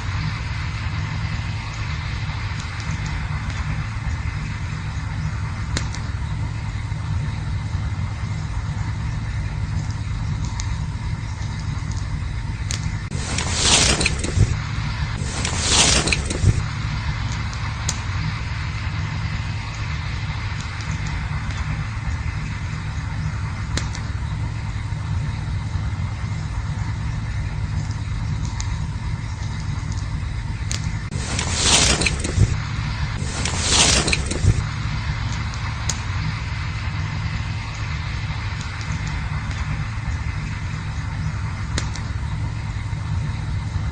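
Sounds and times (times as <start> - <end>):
campfire rumble and hiss: 0.0 - 43.9
fire crackles and pops: 0.0 - 43.9.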